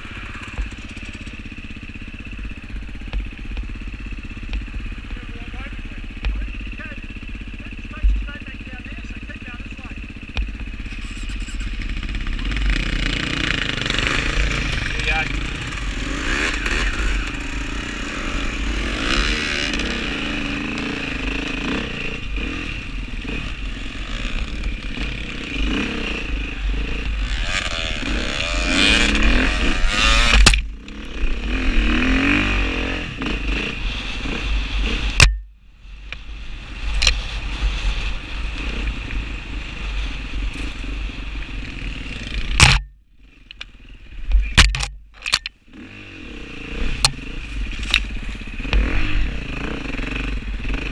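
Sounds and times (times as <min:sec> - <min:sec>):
dirt bike engine revving: 0:00.0 - 0:35.4, 0:36.4 - 0:50.9
bike rattling: 0:00.0 - 0:35.6, 0:36.6 - 0:50.9.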